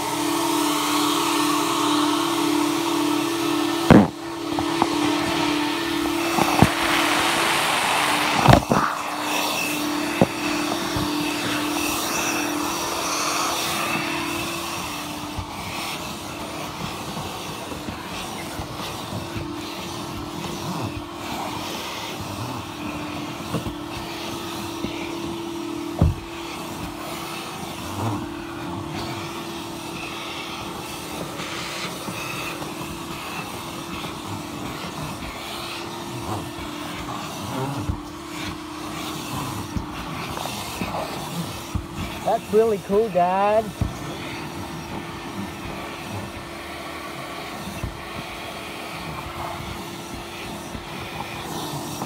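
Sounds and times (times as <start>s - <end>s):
vacuum hose sucking: 0.0s - 52.0s.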